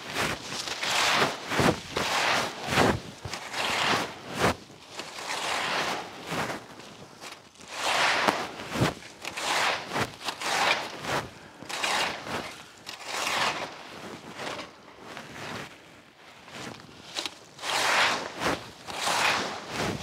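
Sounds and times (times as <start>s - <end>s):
rake swishing through dry leaves: 0.0s - 14.8s, 17.0s - 20.0s.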